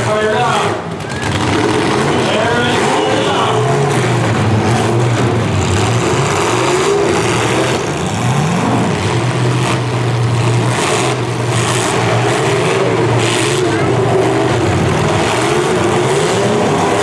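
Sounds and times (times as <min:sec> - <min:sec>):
car engines running and revving: 0:00.0 - 0:17.0.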